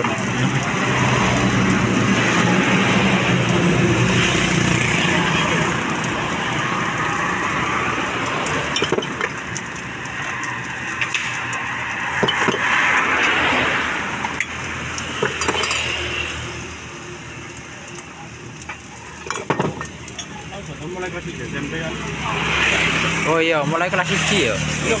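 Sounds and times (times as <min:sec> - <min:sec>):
sizzling hiss: 0:00.0 - 0:25.0.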